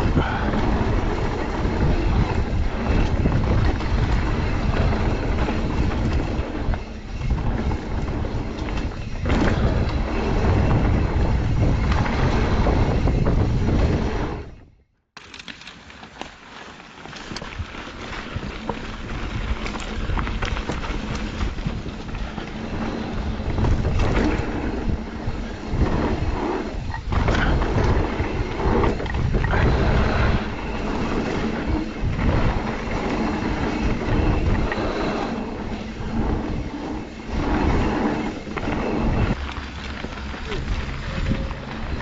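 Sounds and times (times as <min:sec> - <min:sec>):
tyres on dirt: 0:00.0 - 0:14.4, 0:15.2 - 0:42.0
wind buffeting microphone: 0:00.0 - 0:14.8, 0:17.4 - 0:42.0
bike clicks and rattles: 0:00.0 - 0:42.0.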